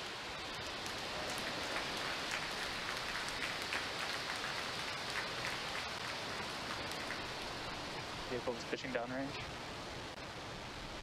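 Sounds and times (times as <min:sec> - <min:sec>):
rocket engines roaring with crackles: 0:00.0 - 0:11.0.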